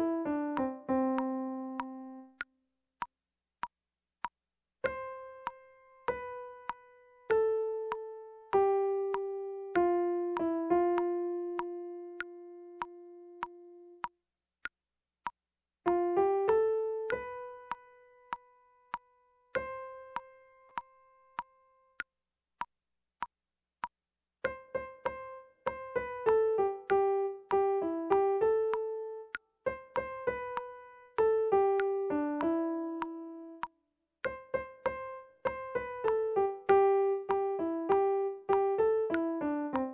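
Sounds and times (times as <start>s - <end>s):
electric piano melody: 0.0s - 2.5s, 4.8s - 14.1s, 15.9s - 22.0s, 24.4s - 39.9s
metronome clicking: 0.0s - 3.1s, 4.2s - 23.3s, 24.4s - 39.9s.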